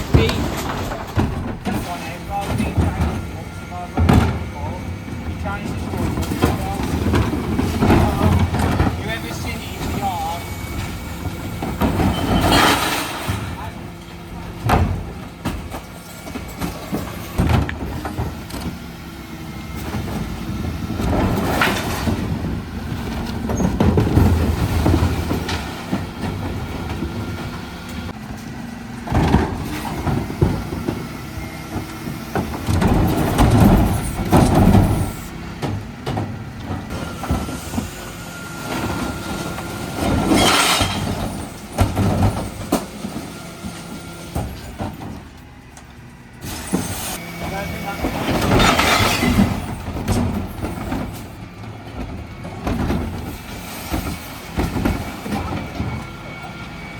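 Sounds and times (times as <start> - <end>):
bin lifter clattering and banging: 0.0 - 56.9
truck engine rumbling: 0.0 - 56.9.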